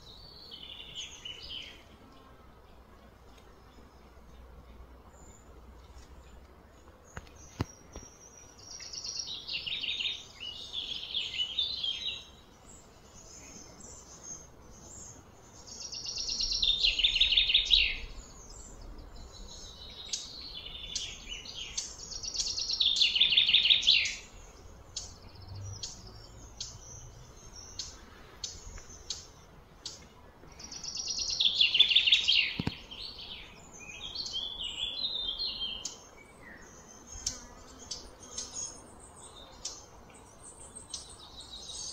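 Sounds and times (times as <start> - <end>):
soft bird chirps: 0.0 - 41.9
loud trilled birdsong: 7.1 - 41.9.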